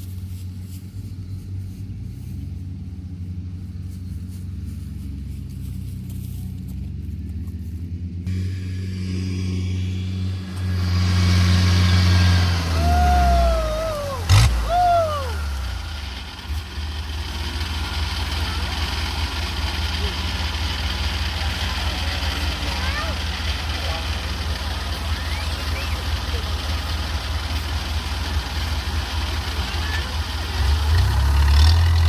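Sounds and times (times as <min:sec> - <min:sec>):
diesel engine throbbing: 0:00.0 - 0:32.0.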